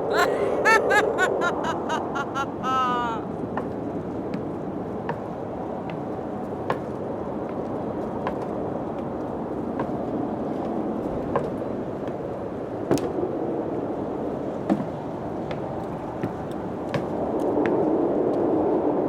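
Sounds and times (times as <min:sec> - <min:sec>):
steady wind: 0:00.0 - 0:19.0.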